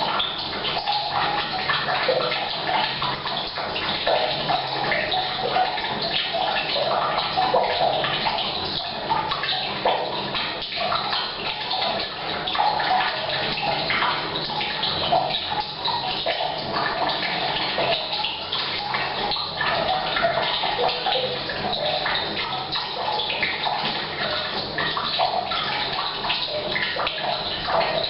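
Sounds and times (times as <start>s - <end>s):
tap water pouring into tank: 0.0s - 28.0s.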